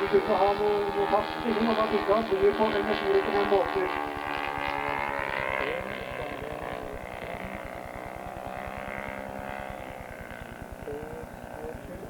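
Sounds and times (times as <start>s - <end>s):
model airplane engines: 0.0s - 12.0s.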